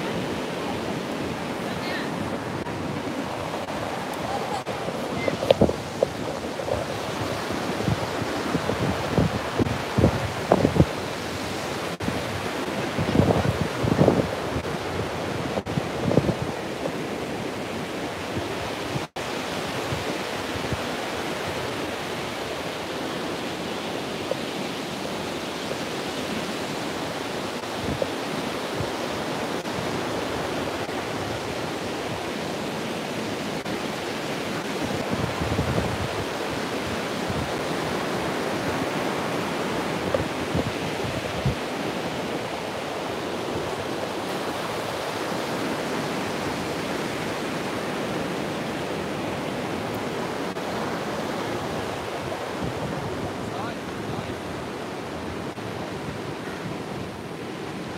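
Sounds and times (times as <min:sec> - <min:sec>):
wind buffeting microphone: 0:00.0 - 0:32.8, 0:33.6 - 0:57.9
ocean surf breaking on beach: 0:00.0 - 0:57.9.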